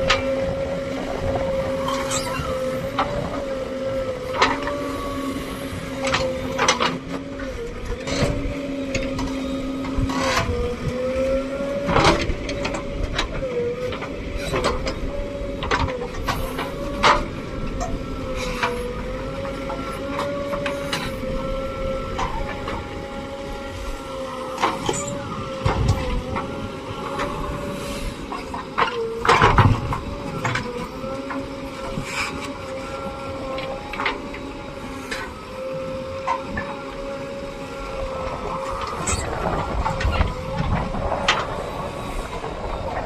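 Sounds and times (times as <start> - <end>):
machine whine: 0.0 - 43.0.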